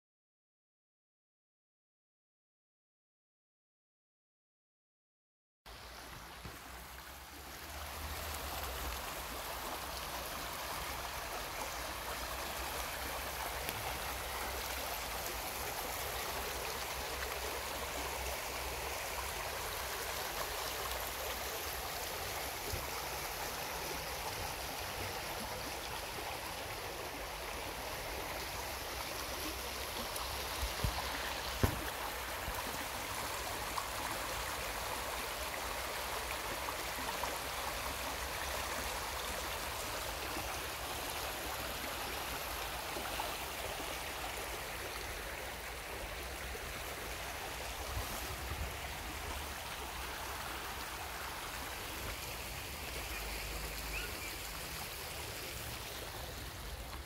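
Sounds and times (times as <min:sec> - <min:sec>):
stream rushing over stones: 0:05.7 - 0:57.0.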